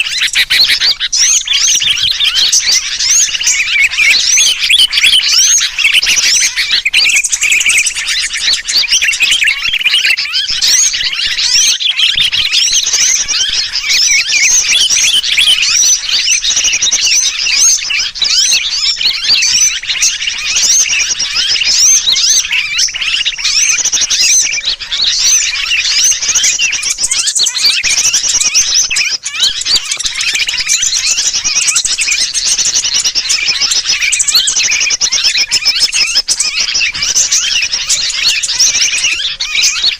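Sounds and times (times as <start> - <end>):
agitated bulbul calls: 0.0 - 39.9
chorus of small birds chirping: 0.0 - 39.9.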